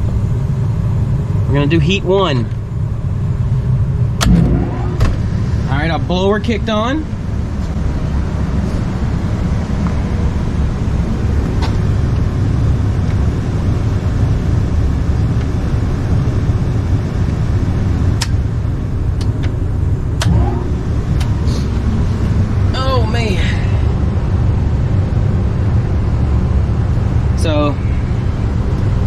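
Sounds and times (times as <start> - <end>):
blower low rumble: 0.0 - 29.0.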